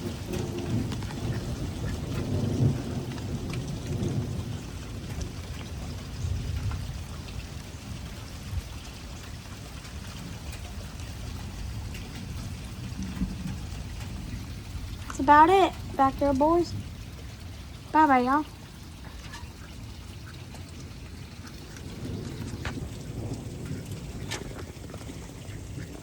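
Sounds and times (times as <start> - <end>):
low rolling thunder: 0.0 - 19.0, 19.7 - 26.0
heavy rain: 0.0 - 26.0.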